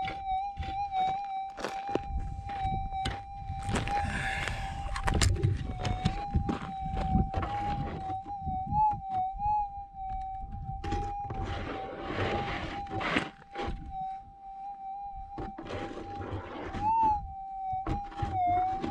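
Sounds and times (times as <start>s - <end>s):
coil knocking and scraping on ground: 0.0s - 9.4s, 10.0s - 14.3s, 15.1s - 18.9s
metal detector tone: 0.0s - 18.9s.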